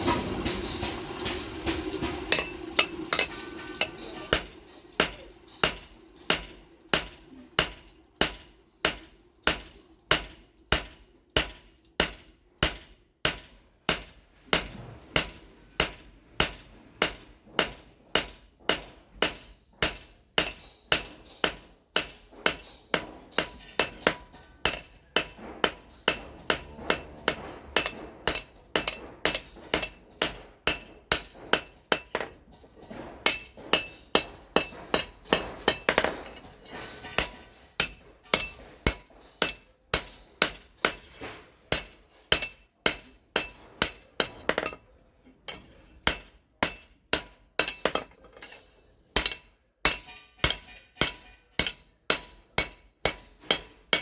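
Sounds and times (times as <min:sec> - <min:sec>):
hammer striking steel on anvil: 0:00.0 - 0:54.0.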